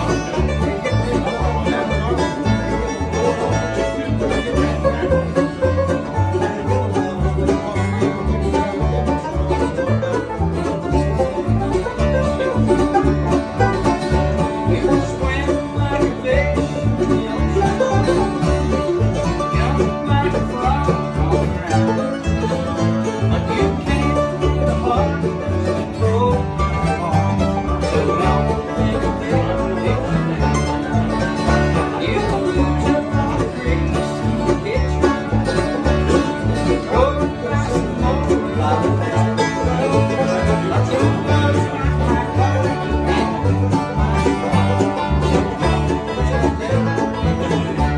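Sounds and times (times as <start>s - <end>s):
acoustic guitars picking: 0.0s - 47.9s
banjo picking: 0.0s - 47.9s
mandolins picking: 0.0s - 47.9s
upright bass: 0.0s - 47.9s.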